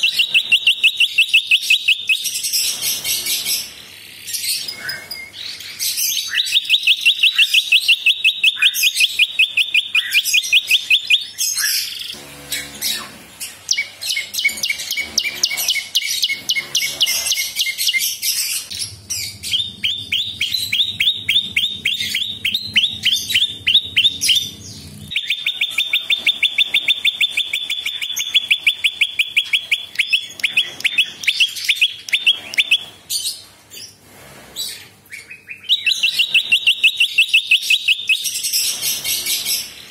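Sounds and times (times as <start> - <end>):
warbler trilling song: 0.0 - 34.0, 34.7 - 39.9.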